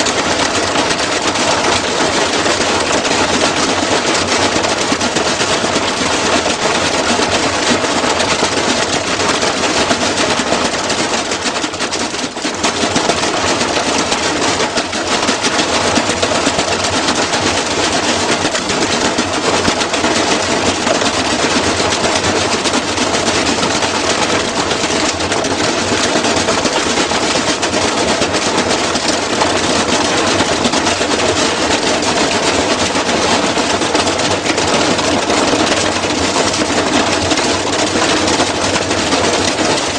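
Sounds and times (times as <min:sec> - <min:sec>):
washing machine banging and rattling: 0:00.0 - 0:39.9.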